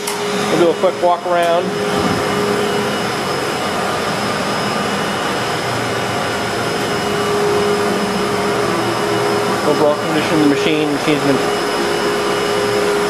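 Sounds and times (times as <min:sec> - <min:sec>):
machining center whirring: 0:00.0 - 0:13.0.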